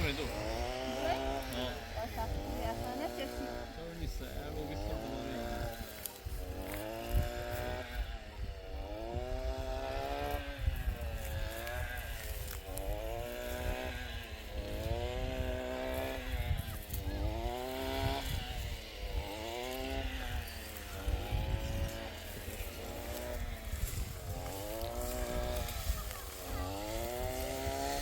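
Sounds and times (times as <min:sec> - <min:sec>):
small engine revving: 0:00.0 - 0:28.0.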